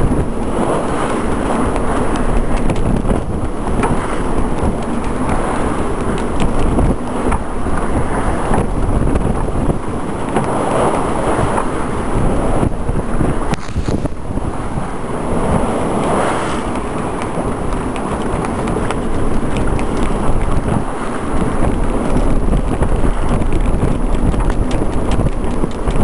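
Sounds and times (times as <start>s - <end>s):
choppy sea rushing: 0.0s - 26.0s
wind buffeting microphone: 0.0s - 26.0s.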